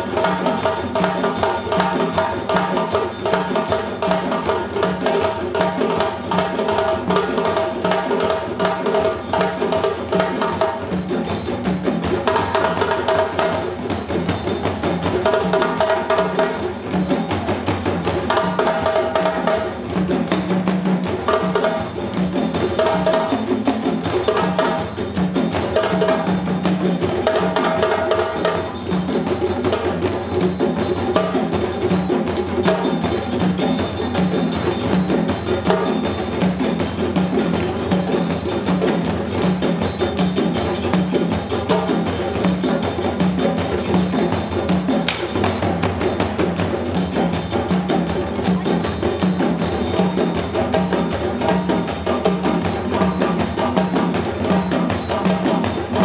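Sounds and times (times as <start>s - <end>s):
hand drums playing rhythm: 0.0s - 56.0s.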